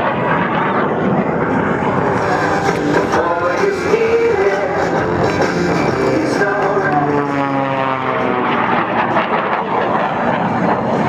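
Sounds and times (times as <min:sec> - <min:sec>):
propeller plane engine at high power: 0:00.0 - 0:11.0.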